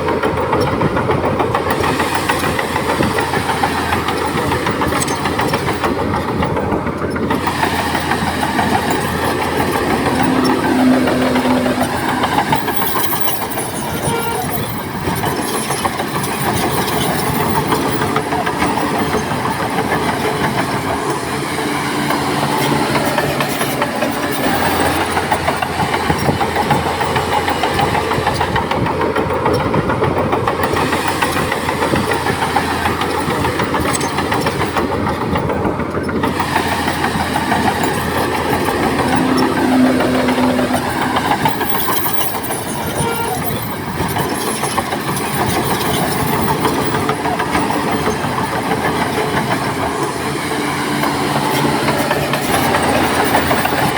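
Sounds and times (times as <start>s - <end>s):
heavy diesel machinery running: 0.0s - 53.9s.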